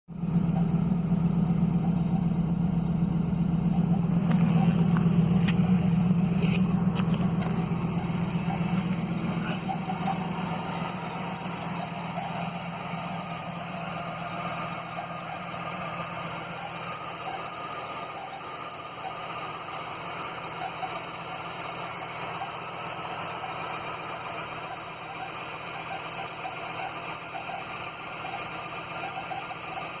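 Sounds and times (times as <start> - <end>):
car engine idling: 0.0 - 30.0
high-pitched whine: 0.1 - 29.9.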